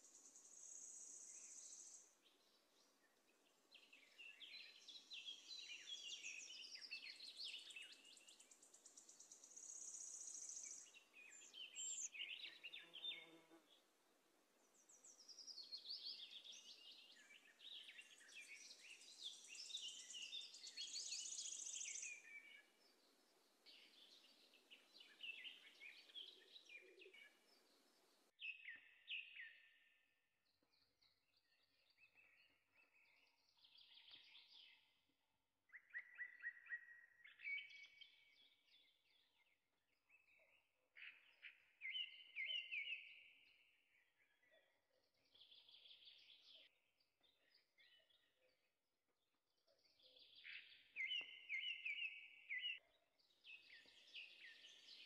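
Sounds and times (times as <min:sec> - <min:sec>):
small birds chirping: 0:00.0 - 0:13.9, 0:14.6 - 0:55.0.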